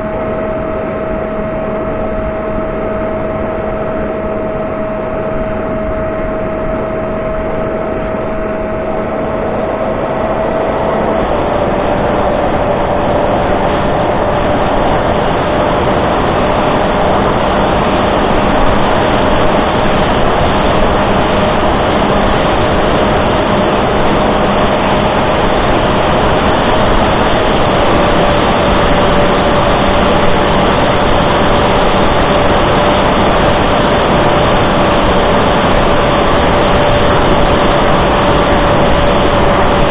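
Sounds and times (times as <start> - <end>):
electric motor and propeller whine: 0.0 - 39.9
heavy wind rush: 0.0 - 39.9.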